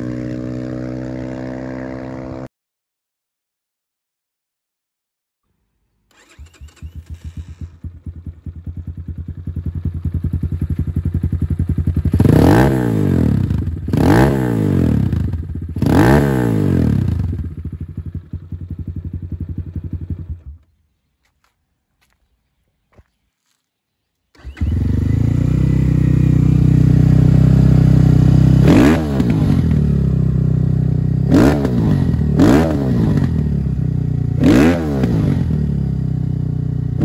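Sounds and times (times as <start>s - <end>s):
motorcycle engine idling and revving: 0.0s - 2.5s, 6.1s - 23.7s, 24.3s - 37.0s.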